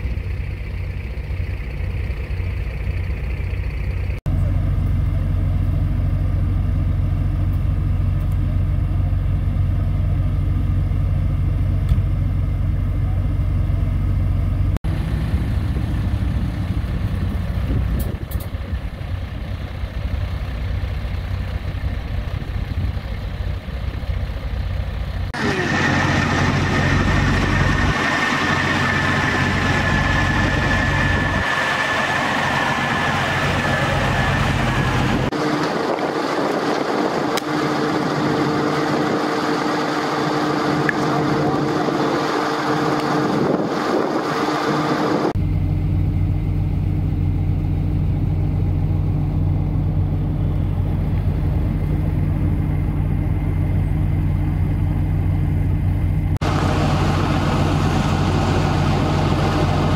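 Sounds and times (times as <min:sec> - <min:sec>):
steady high whine: 0:00.0 - 0:59.9
steady low hum: 0:00.0 - 0:59.9
truck diesel engines idling: 0:00.0 - 0:59.9.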